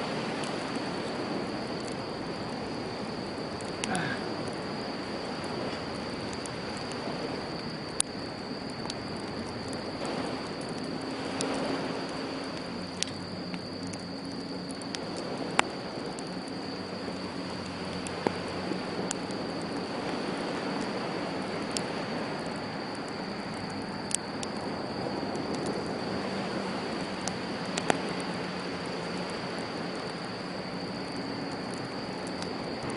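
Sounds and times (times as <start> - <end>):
campfire crackling: 0.0 - 32.9
fire popping: 0.0 - 32.9
sea waves: 0.0 - 32.9.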